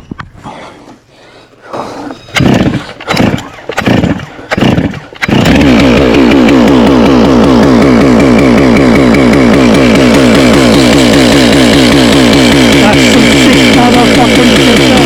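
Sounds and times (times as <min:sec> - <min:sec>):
starter cord pulls: 0:02.2 - 0:15.0
chainsaw running at high speed: 0:02.4 - 0:15.0.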